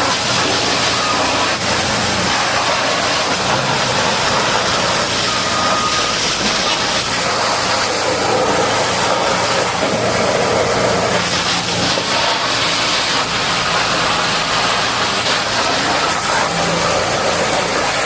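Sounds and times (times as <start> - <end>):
diesel engine idling: 0.0 - 18.0
high-pressure water spray hiss: 0.0 - 18.0.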